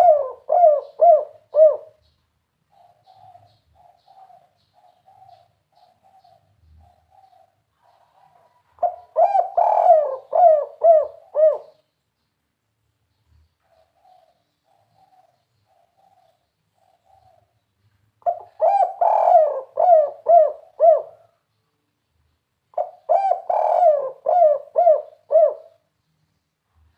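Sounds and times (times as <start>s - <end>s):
dove cooing: 0.0s - 2.1s, 2.7s - 11.9s, 13.6s - 17.6s, 18.2s - 21.5s, 22.7s - 25.9s.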